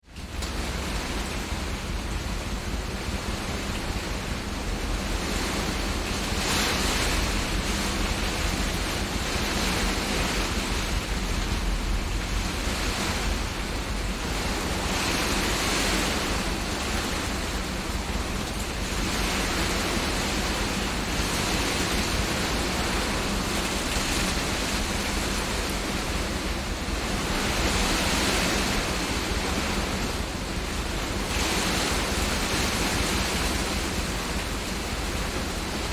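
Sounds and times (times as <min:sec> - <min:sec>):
rain and hail drumming on roof: 0:00.0 - 0:35.9
wind gusts: 0:00.0 - 0:35.9.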